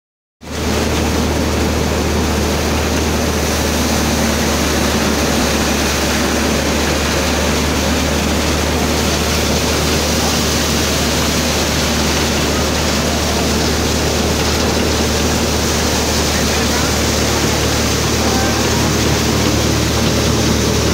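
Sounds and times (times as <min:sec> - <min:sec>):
low machine hum: 0:00.5 - 0:20.9
thresher rushing noise: 0:00.5 - 0:20.9.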